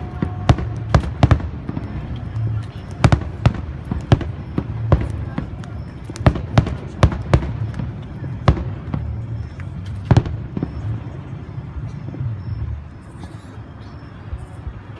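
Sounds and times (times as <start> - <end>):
fireworks bangs: 0.0 - 12.9.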